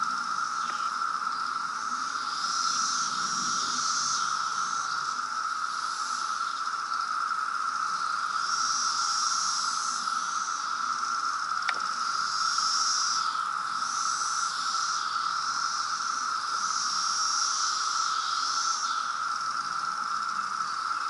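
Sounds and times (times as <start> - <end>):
cicadas droning buzz: 0.0 - 21.0.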